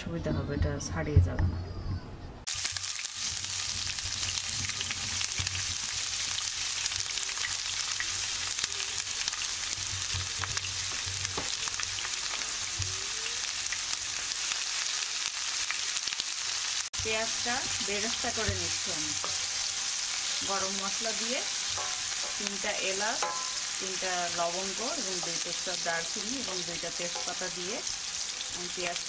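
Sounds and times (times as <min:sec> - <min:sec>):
onions sizzling in hot oil: 0:02.5 - 0:29.0.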